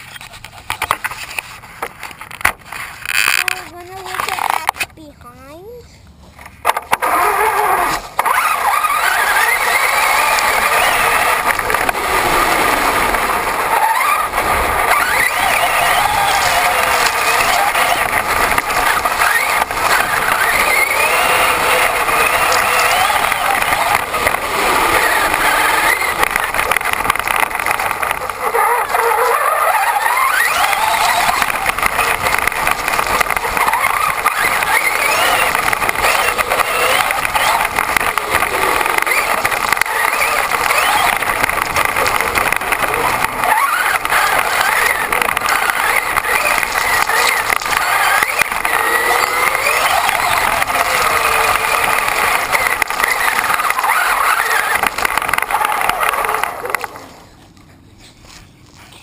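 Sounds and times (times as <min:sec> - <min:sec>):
rc truck motor whining: 0:00.0 - 0:05.5, 0:06.1 - 0:57.4
tyre and ground noise: 0:00.0 - 0:59.0.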